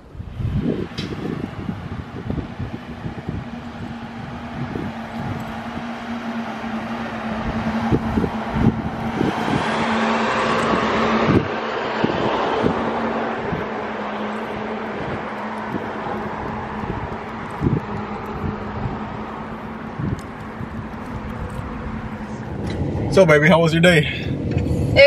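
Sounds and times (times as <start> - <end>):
wind buffeting microphone: 0.0 - 25.0
car passing: 0.1 - 25.0.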